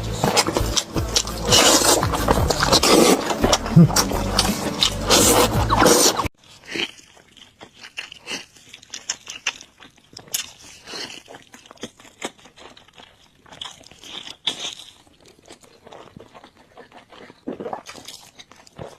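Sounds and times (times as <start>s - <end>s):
crunching and chewing: 0.0s - 18.9s.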